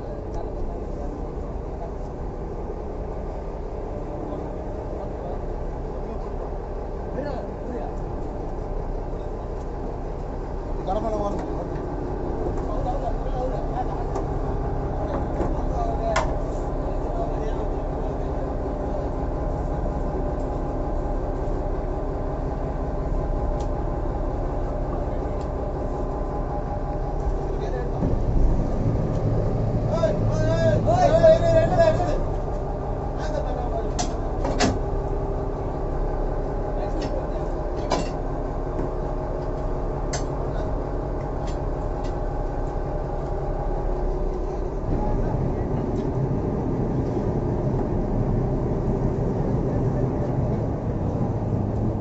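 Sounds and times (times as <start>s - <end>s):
winch engine drone: 0.0s - 52.0s.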